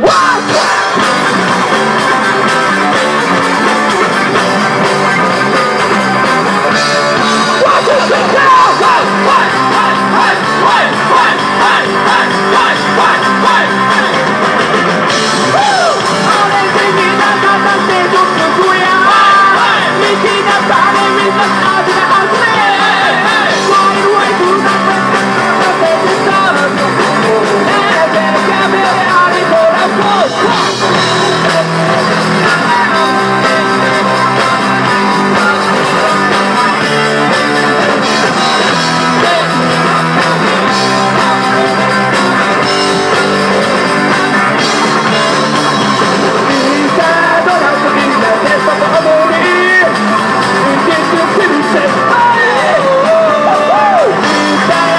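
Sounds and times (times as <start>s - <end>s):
bass guitar: 0.0s - 54.9s
drum kit: 0.0s - 54.9s
electric guitar: 0.0s - 54.9s
man singing: 0.0s - 54.9s.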